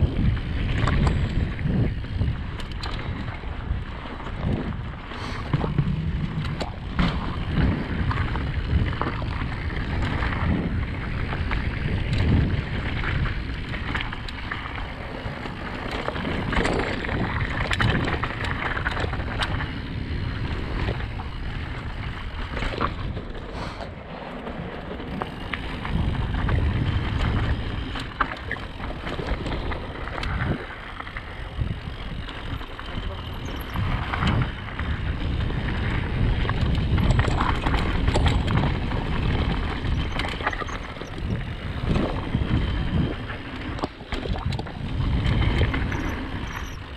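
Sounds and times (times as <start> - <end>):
bike clattering over bumps: 0.0 - 46.9
tyres on rough trail: 0.0 - 46.9
wind rushing over microphone: 0.0 - 46.9.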